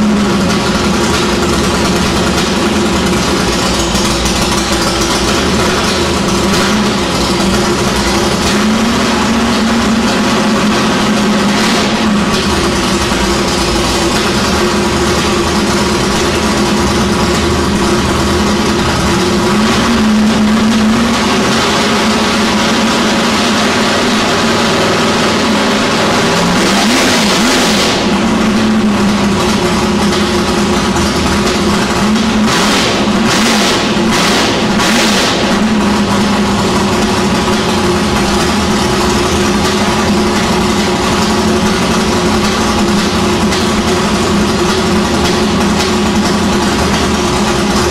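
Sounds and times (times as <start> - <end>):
car engine idling and revving: 0.0 - 47.9
engine throttle blips: 0.0 - 47.9.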